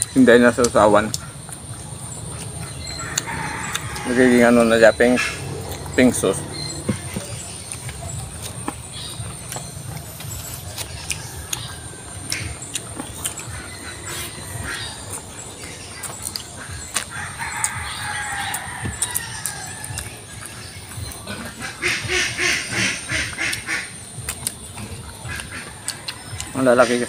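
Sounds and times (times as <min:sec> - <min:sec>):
bird-like calls: 0:00.0 - 0:27.0
lip smacks and chewing: 0:00.6 - 0:04.0, 0:06.6 - 0:21.7, 0:23.2 - 0:26.6.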